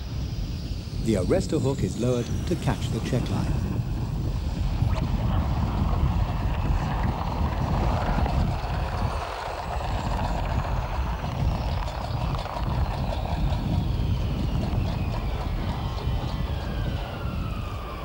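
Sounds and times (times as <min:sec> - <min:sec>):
jet engines whining and rumbling: 0:00.0 - 0:18.0
wind buffeting microphone: 0:00.0 - 0:18.0.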